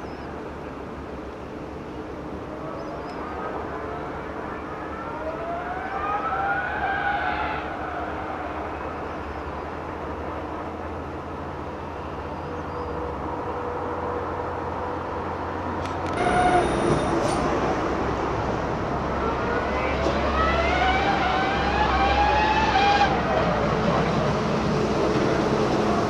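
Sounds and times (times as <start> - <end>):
distant racing car engine: 2.6 - 26.0.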